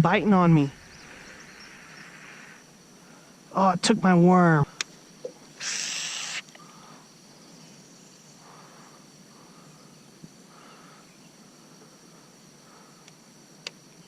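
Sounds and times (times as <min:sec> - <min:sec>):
faint insect trill: 0:00.0 - 0:14.0.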